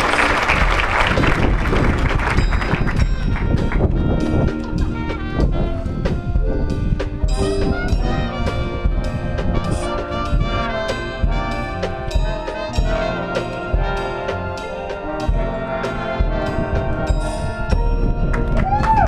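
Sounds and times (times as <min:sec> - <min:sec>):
drum-line beat: 0:00.0 - 0:19.0
marching band brass chords: 0:00.0 - 0:19.0.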